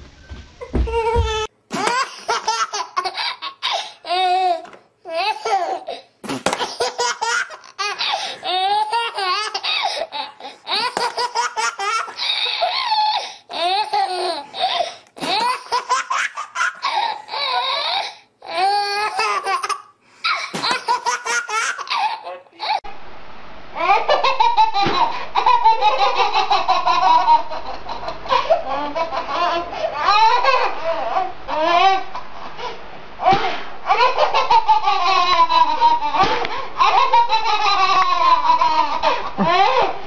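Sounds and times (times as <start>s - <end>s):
baby laughing: 0.9s - 22.8s, 23.8s - 32.3s, 33.2s - 40.0s.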